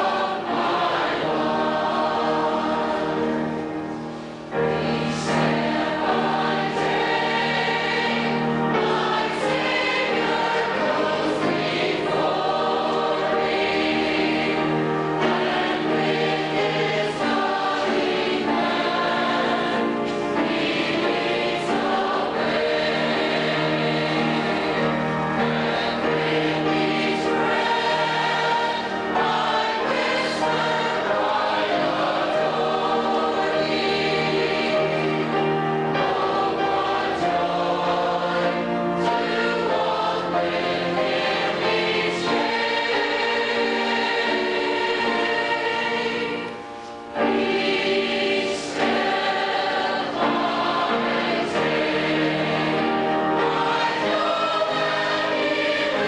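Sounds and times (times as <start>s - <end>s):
choir singing a hymn: 0.0s - 56.0s
organ chords: 0.0s - 56.0s.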